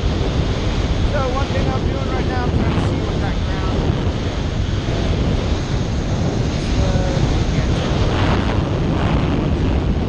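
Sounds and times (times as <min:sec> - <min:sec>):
wind roaring over microphone: 0:00.0 - 0:10.0.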